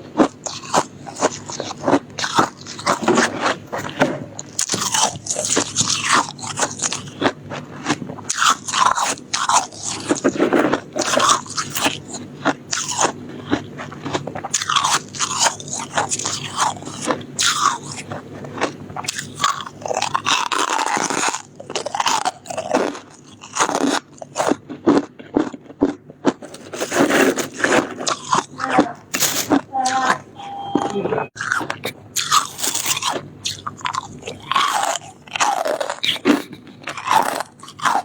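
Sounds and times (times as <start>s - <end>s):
ice being chewed and crunched: 0.0s - 38.0s.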